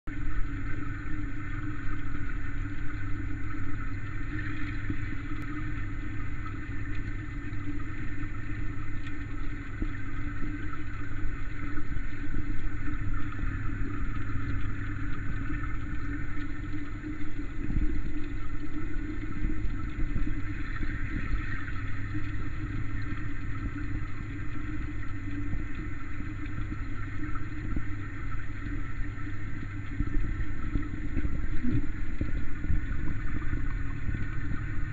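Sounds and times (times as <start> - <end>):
underwater hum and water rush: 0.1 - 34.9.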